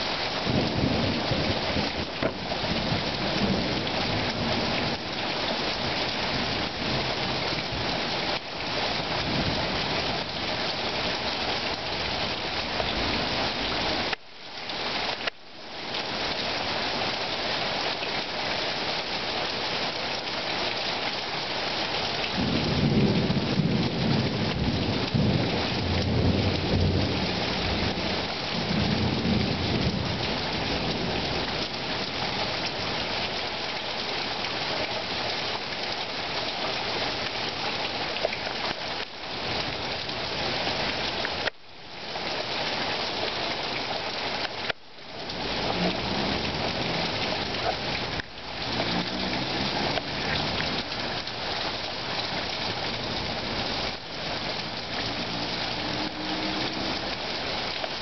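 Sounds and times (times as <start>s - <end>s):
heavy rain pounding street: 0.0s - 58.0s.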